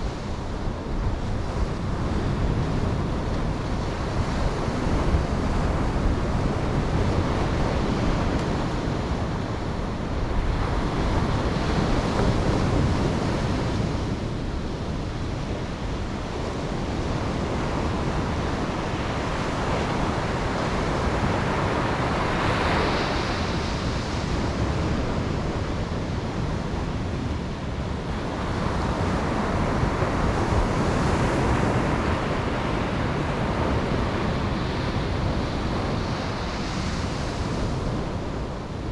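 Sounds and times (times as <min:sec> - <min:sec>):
ocean waves breaking: 0:00.0 - 0:38.9
wind noise on microphone: 0:00.0 - 0:38.9.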